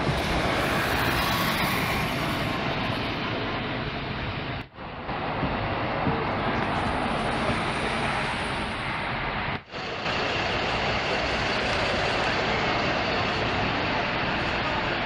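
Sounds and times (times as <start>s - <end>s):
bus driving past: 0.0s - 15.0s
bus pulling away: 0.0s - 15.0s.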